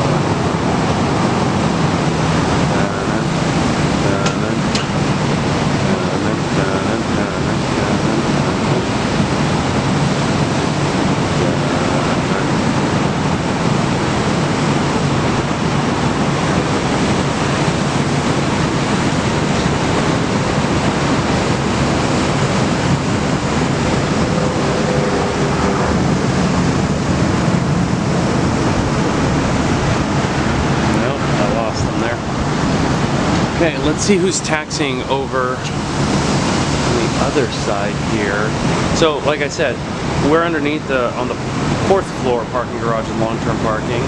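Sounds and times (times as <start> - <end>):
wind blowing across microphone: 0.0 - 44.0.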